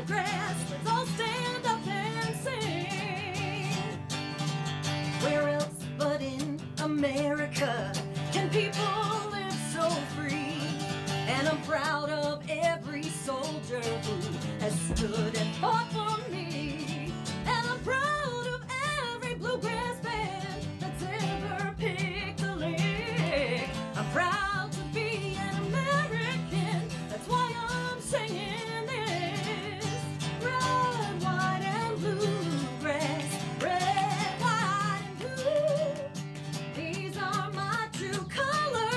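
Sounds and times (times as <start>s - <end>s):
acoustic guitar strumming: 0.0s - 38.9s
woman singing country song: 0.0s - 38.9s.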